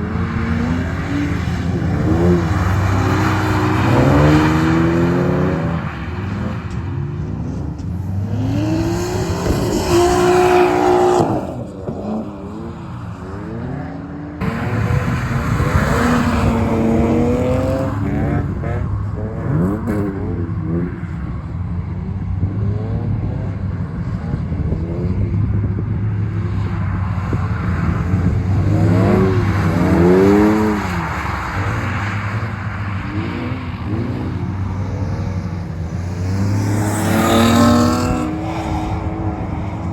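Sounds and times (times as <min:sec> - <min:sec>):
car engines revving hard: 0:00.0 - 0:39.9.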